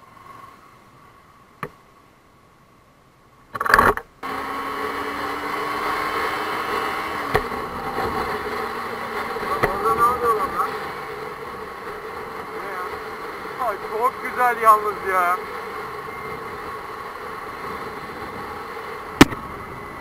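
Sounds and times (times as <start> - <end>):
motorcycle engine hum: 3.5 - 20.0.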